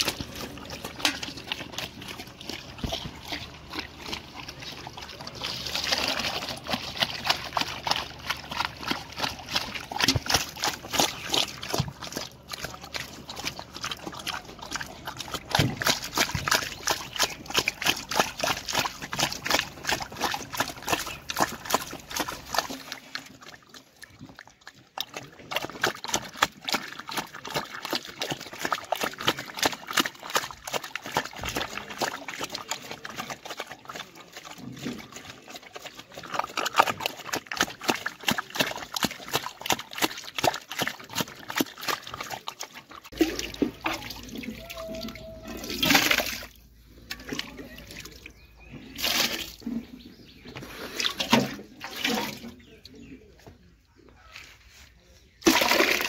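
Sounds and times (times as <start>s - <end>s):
liquid splashes: 0.0s - 52.8s, 55.4s - 56.0s
pig smacking and slurping: 0.0s - 54.7s, 55.3s - 56.0s.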